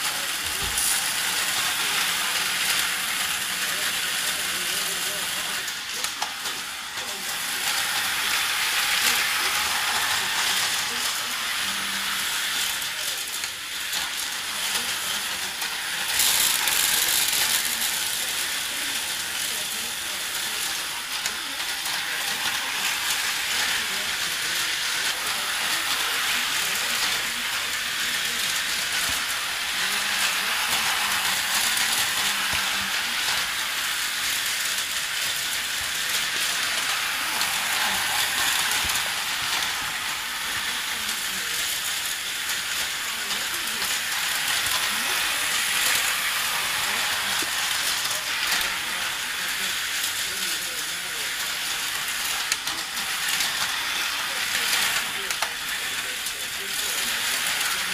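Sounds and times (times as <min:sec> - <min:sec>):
toy slot trucks whirring: 0:00.0 - 0:57.9.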